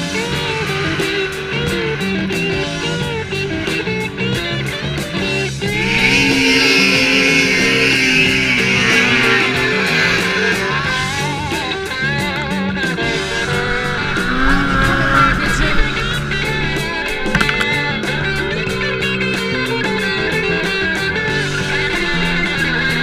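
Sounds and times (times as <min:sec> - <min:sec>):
rock music with electric guitar: 0:00.0 - 0:23.0.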